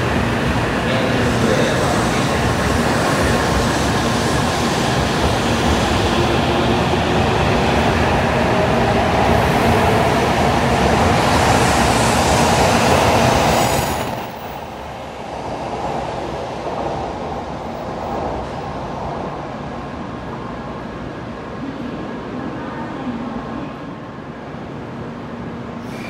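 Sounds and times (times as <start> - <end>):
train wheels rushing on rail: 0.0 - 26.0.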